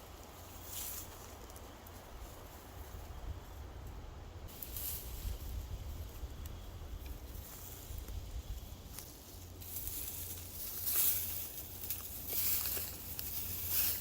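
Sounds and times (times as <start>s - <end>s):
rustling in dry leaves: 0.0s - 14.0s
wind rumble on microphone: 0.0s - 14.0s.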